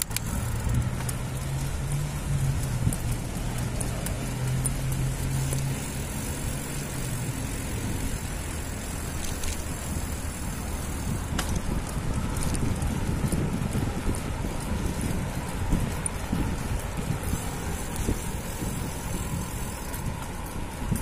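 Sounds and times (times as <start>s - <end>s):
road noise rushing: 0.0s - 21.0s
vehicle engine humming: 0.0s - 21.0s.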